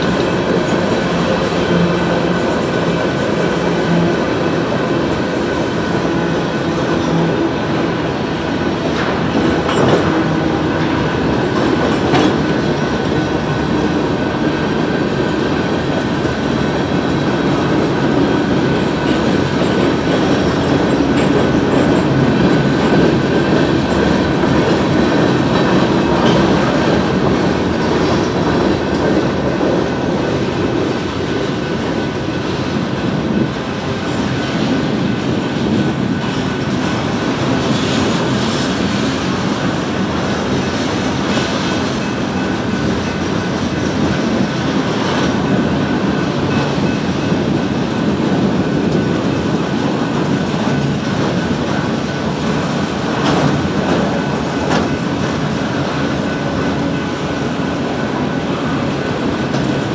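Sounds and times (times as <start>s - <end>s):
train cars clanking: 0.0s - 59.9s
train wheels clacking over rail joints: 0.0s - 59.9s.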